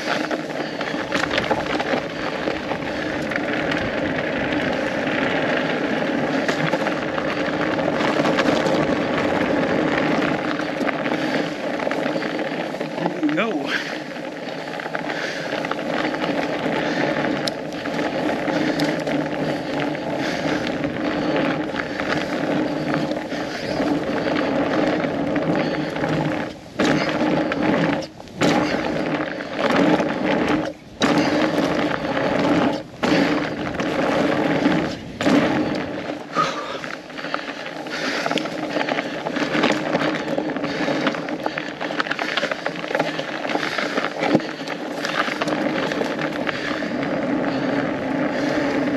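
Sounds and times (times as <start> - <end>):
bike tires rolling over frozen trail: 0.0 - 48.9.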